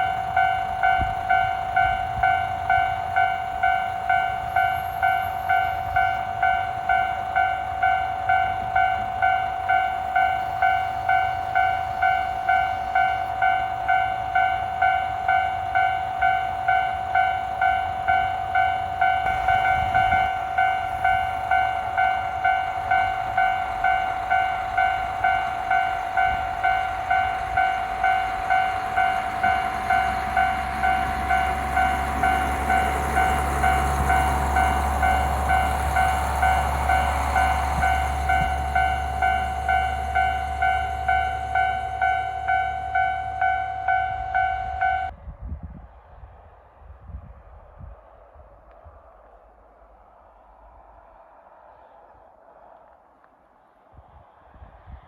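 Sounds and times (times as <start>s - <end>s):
level crossing bell dinging: 0.0s - 45.1s
train rumble: 0.0s - 55.0s.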